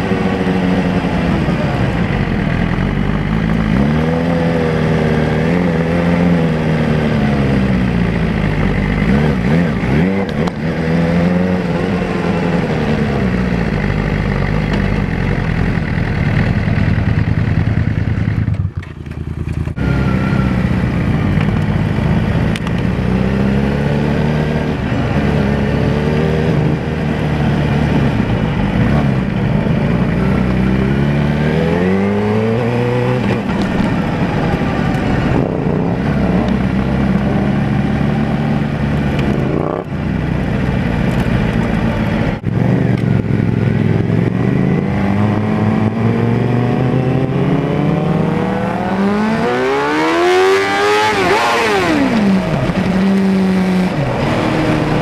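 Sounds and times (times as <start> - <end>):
louder engine climbing in pitch: 0.0 - 55.0
motorcycle engine running: 0.0 - 55.0.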